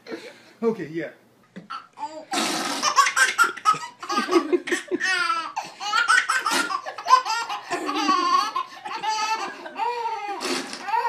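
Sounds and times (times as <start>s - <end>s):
baby laughing: 1.7s - 11.0s.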